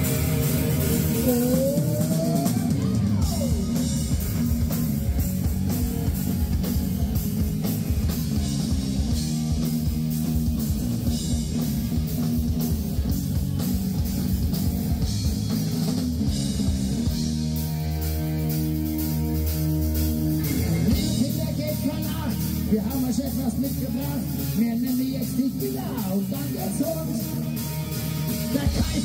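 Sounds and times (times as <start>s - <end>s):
drum kit: 0.0s - 29.0s
electric guitar: 0.0s - 29.0s.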